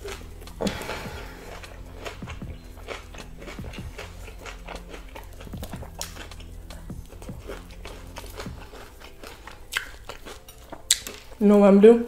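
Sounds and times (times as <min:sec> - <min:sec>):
chewing crispy fried chicken: 0:00.0 - 0:11.7.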